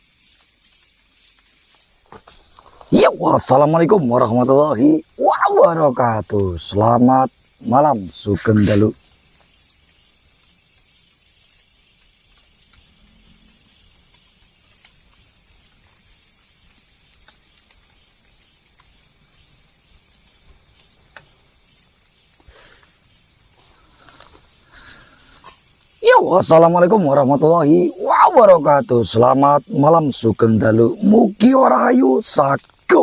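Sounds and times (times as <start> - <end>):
small ticks and rustles: 0.0 - 27.9, 31.4 - 33.0
insects trilling: 0.0 - 33.0.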